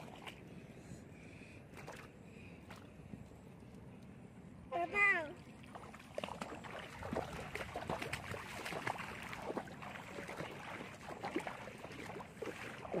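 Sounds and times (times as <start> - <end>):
water sloshing and splashing: 0.0 - 0.8, 1.7 - 4.2, 4.8 - 13.0.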